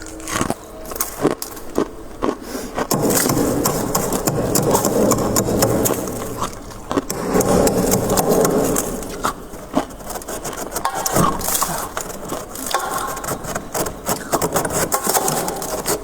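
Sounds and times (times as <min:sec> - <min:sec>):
frost crunching: 0:00.0 - 0:16.0.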